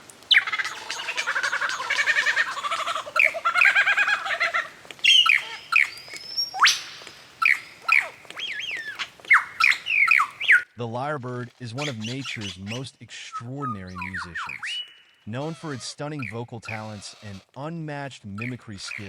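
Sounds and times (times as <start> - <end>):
lyrebird song: 0.0 - 19.0.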